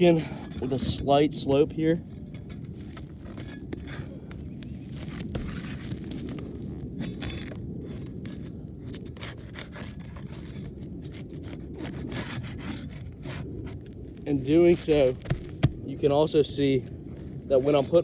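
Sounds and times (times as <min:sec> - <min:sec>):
metal bar scraping under shingles: 0:00.0 - 0:15.8, 0:17.5 - 0:18.0.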